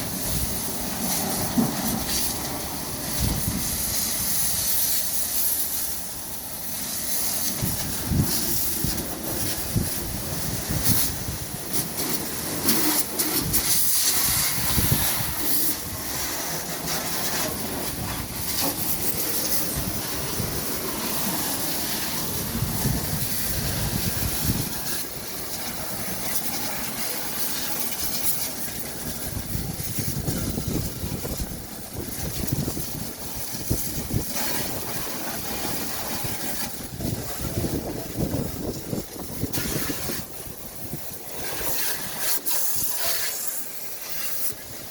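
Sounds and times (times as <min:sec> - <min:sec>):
hose spraying water: 0:00.0 - 0:44.9.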